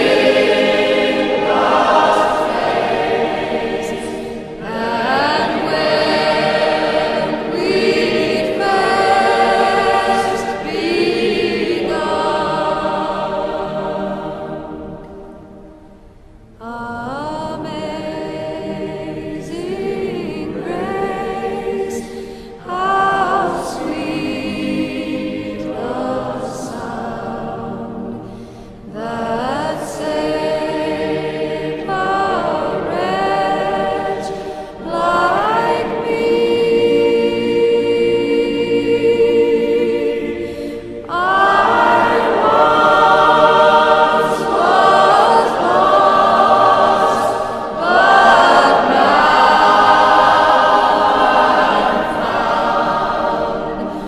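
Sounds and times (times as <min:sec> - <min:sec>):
choir singing slow piece: 0:00.0 - 0:54.0.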